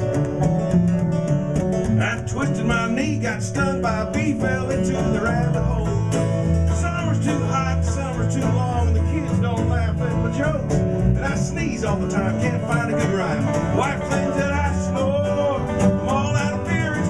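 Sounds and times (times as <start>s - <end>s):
bluegrass string band playing: 0.0s - 17.0s.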